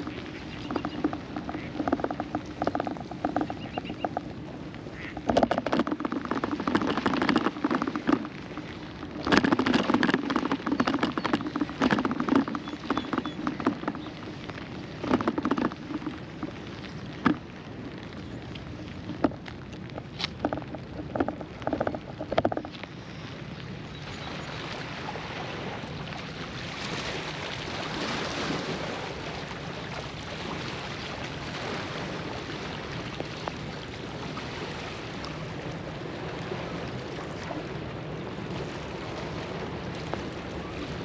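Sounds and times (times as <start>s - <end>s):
rain pattering: 0.0s - 41.0s.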